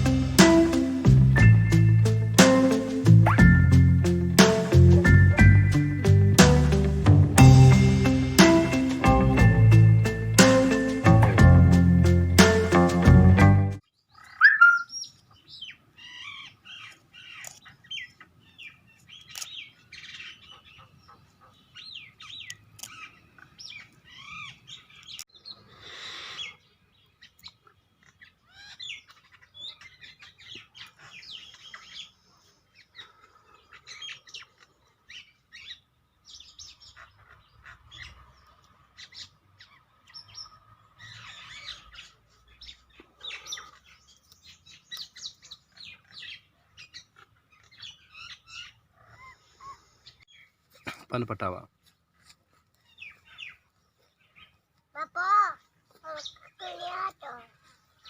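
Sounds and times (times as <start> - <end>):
birds chirping: 0.0 - 52.2, 52.8 - 58.0.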